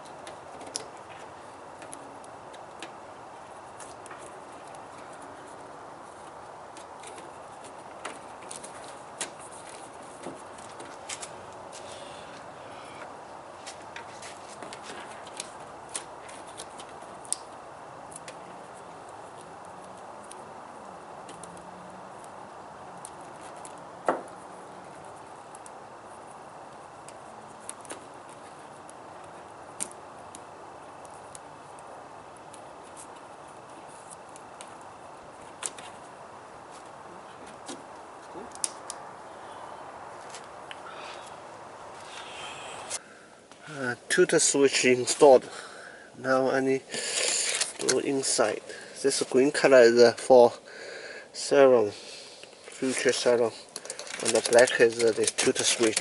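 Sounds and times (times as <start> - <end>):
background noise: 0.0 - 56.0.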